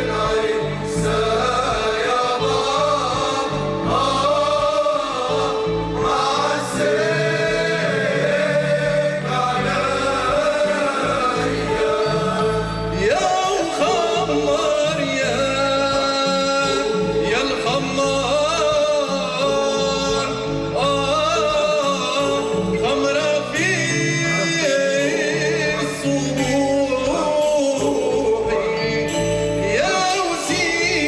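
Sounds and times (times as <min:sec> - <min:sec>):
live music accompaniment: 0:00.0 - 0:31.0.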